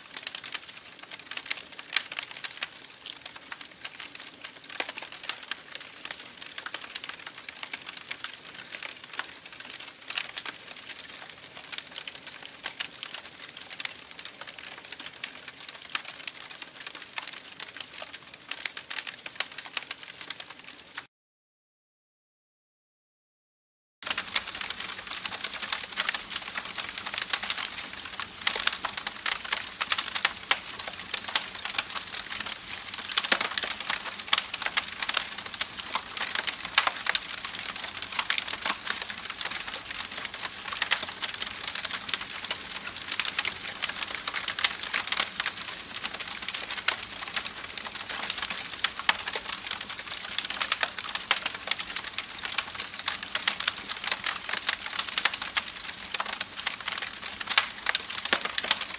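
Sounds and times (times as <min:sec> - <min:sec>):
campfire crackling: 0:00.0 - 0:21.1, 0:24.0 - 0:58.9.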